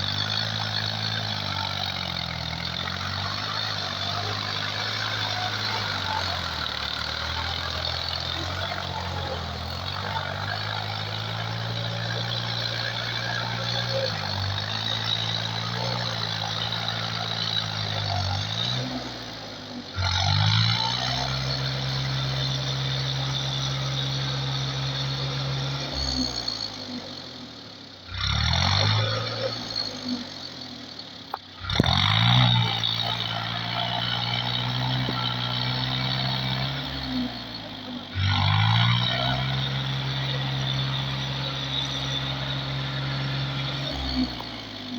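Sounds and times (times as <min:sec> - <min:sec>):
tractor engine revving: 0:00.0 - 0:44.9.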